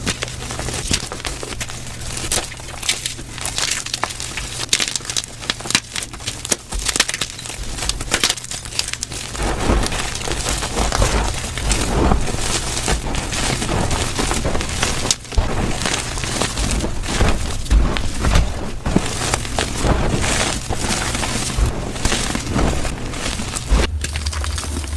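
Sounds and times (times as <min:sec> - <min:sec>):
chalk crunching and crackling: 0:00.0 - 0:24.9.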